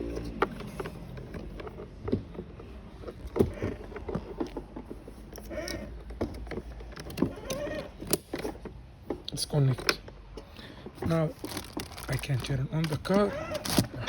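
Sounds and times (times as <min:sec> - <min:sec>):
plastic parts clicking: 0:00.1 - 0:14.0.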